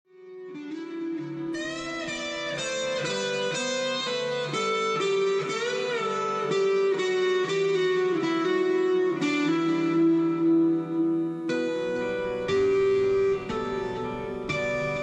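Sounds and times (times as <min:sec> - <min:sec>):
electric guitar lead line: 0:00.1 - 0:15.0.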